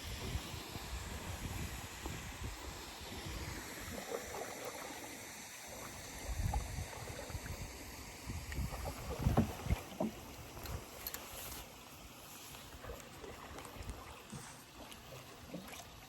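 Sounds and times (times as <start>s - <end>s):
water rushing around canoe: 0.0s - 16.0s
water splashing: 0.1s - 16.0s.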